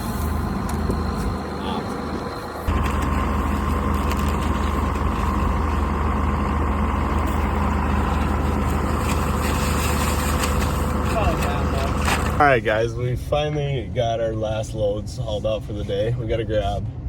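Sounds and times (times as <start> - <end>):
vehicle engine running steadily: 0.0 - 17.0.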